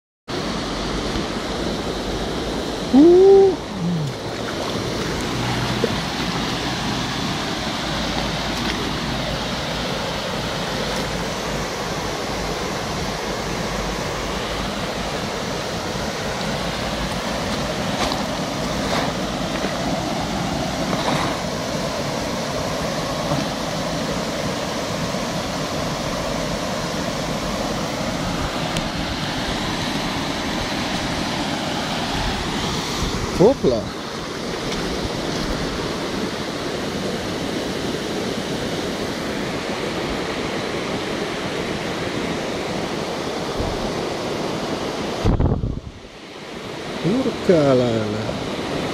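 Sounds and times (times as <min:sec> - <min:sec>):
rushing torrent water: 0:00.3 - 0:48.9.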